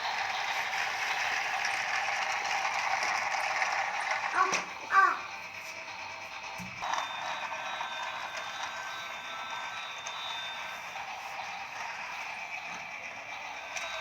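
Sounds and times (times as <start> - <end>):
toy train whirring: 0.0 - 14.0.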